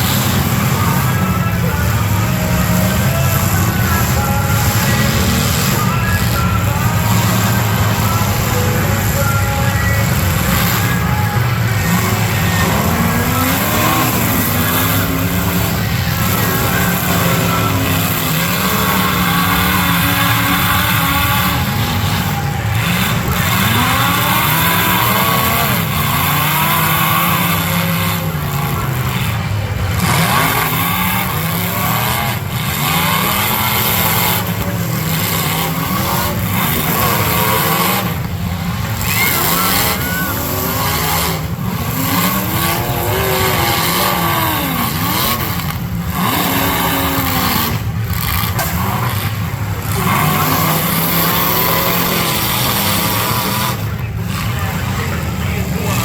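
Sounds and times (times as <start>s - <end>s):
car engines revving: 0.0s - 56.0s
loud din: 0.0s - 56.0s.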